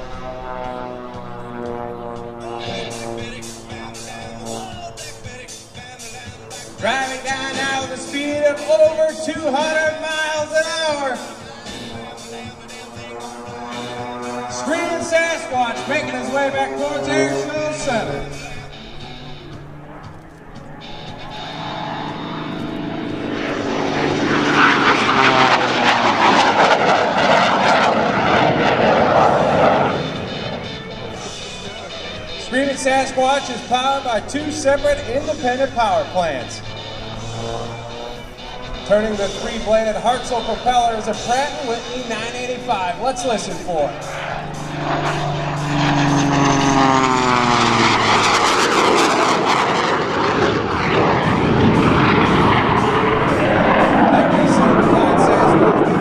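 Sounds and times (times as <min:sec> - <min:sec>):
biplane engine and propeller roar: 0:00.0 - 0:56.0.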